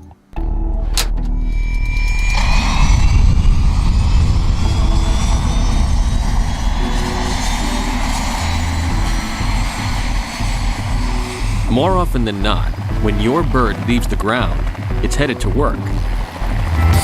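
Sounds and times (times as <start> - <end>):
turbine engine running: 0.8 - 17.0.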